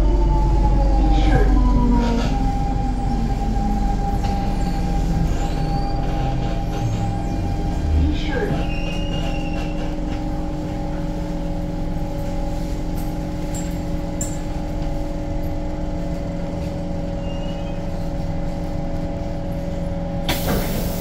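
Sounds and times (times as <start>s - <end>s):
train equipment humming: 0.0s - 21.0s.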